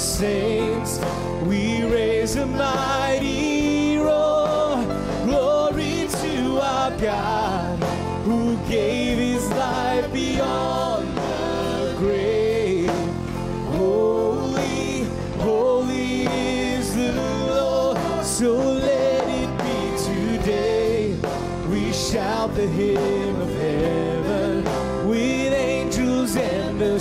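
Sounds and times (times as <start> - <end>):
guitar: 0.0 - 27.0
man singing worship song: 0.0 - 27.0.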